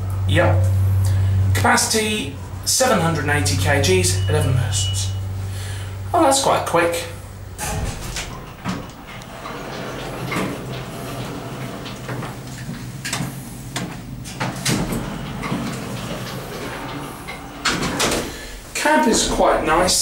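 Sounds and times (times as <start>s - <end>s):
lift low hum: 0.0s - 20.0s.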